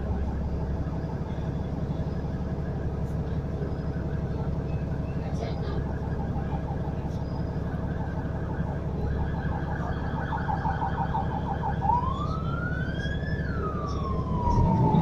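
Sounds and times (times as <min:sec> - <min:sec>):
electronic siren: 0:00.0 - 0:15.0
vehicle engine rumble: 0:00.0 - 0:15.0.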